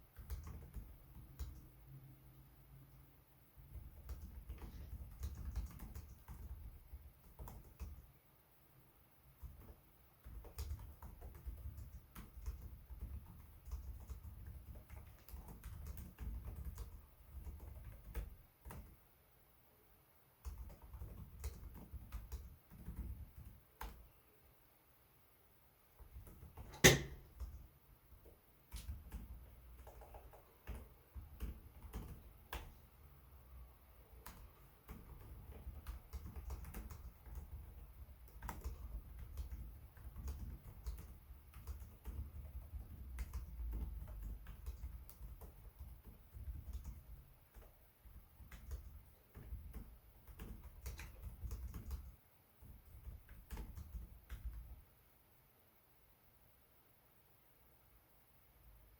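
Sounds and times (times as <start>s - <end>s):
laptop keyboard typing: 0.0s - 2.1s, 3.6s - 8.2s, 9.3s - 19.0s, 20.4s - 24.2s, 25.9s - 54.9s.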